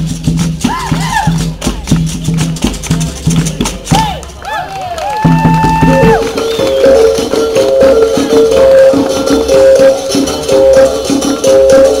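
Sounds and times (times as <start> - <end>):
hand drum drumming: 0.0 - 4.2, 5.2 - 12.0.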